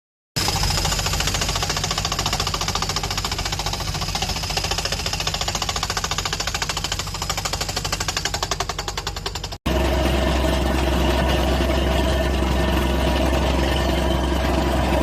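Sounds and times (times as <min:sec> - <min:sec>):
rapid machine hammering: 0:00.4 - 0:15.0.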